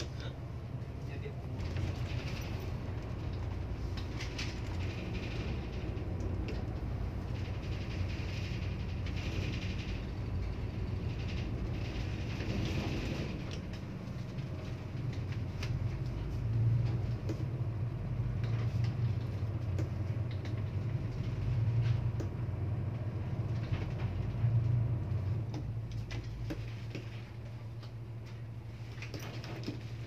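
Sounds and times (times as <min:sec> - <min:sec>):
ship engines droning: 0:00.0 - 0:28.9.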